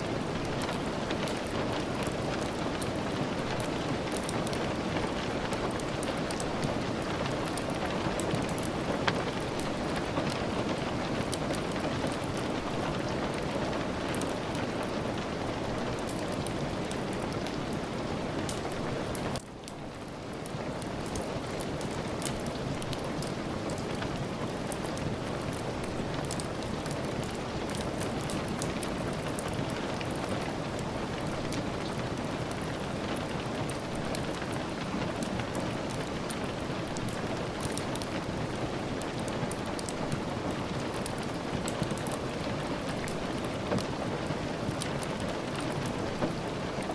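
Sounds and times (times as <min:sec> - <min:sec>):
steady rain: 0:00.0 - 0:46.9
sharp crackles and ticks: 0:00.1 - 0:14.6, 0:15.8 - 0:46.9.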